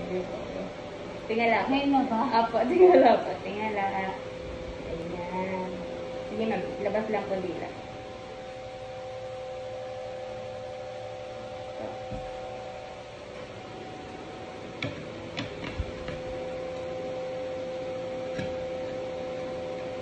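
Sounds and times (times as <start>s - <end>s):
electric appliance humming: 0.0s - 20.0s.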